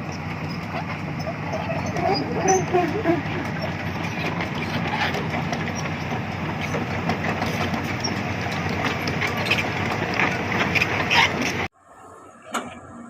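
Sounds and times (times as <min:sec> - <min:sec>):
excavator diesel engine running: 0:00.0 - 0:11.7
metallic clanks and rattles: 0:00.0 - 0:11.7.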